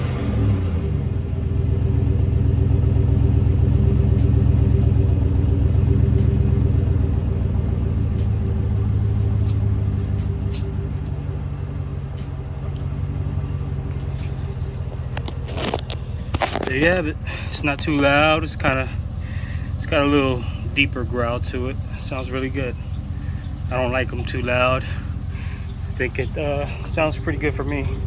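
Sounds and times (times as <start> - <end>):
pickup truck engine idling: 0.0 - 28.0.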